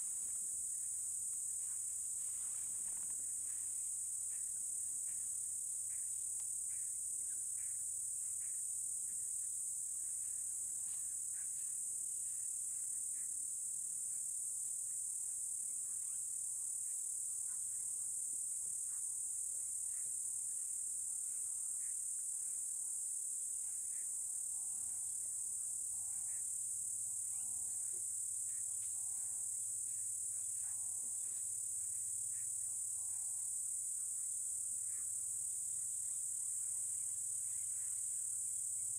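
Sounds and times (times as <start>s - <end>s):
faint insect chirps: 0.0s - 38.9s
insect chorus drone: 0.0s - 38.9s.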